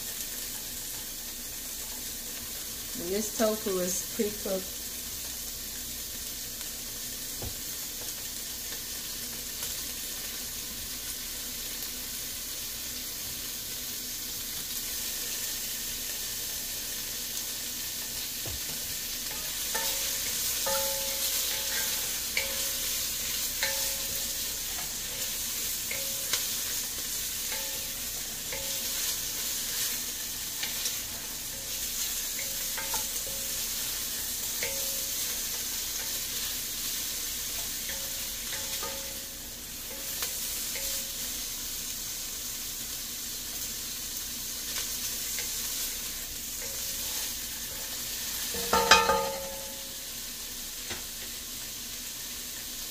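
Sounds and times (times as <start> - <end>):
food sizzling in hot oil: 0.0 - 52.9.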